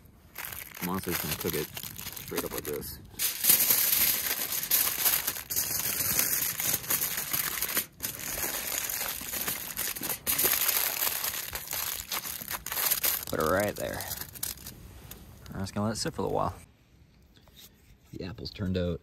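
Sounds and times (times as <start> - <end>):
crinkling and crumpling: 0.0 - 16.5.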